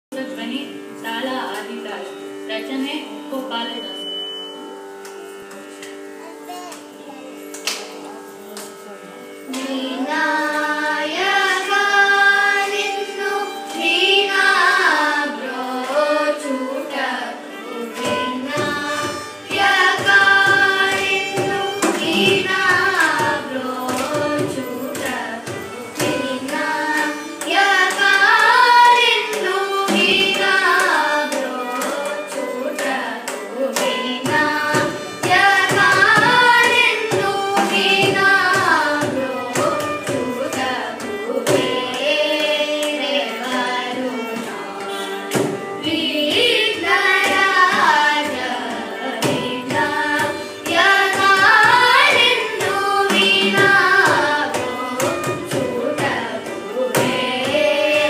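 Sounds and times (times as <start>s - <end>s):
violin accompaniment: 0.1s - 58.0s
children singing together: 9.5s - 58.0s.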